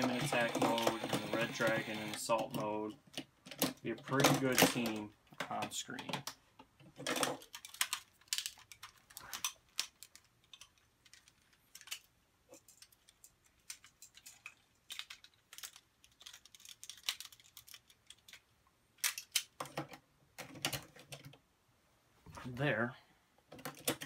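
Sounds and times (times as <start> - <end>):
plastic toy parts clicking: 0.0 - 21.4, 23.5 - 24.0.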